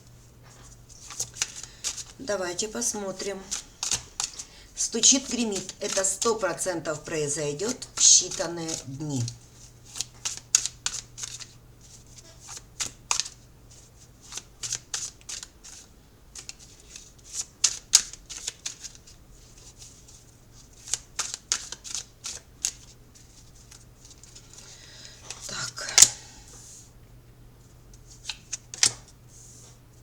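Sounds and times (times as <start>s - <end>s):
cards being shuffled: 0.5s - 24.7s, 28.1s - 29.7s.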